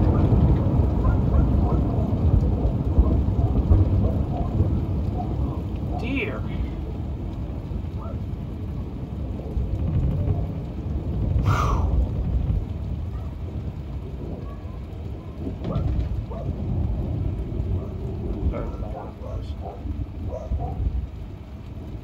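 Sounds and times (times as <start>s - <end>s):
low rumble of thunder: 0.0s - 22.0s
steady rain falling: 0.0s - 22.0s.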